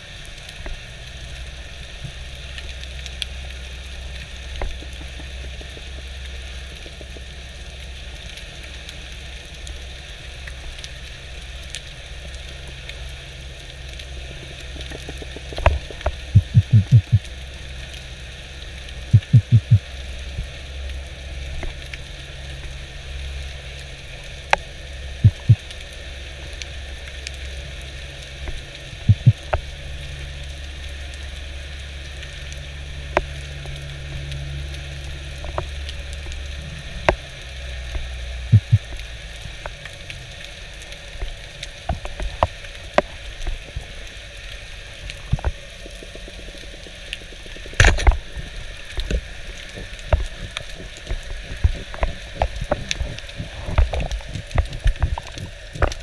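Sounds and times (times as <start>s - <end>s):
underwater low rumble: 0.0s - 56.0s
sharp clicks and crackles: 2.0s - 9.8s, 13.6s - 22.8s, 23.7s - 31.4s, 32.0s - 56.0s.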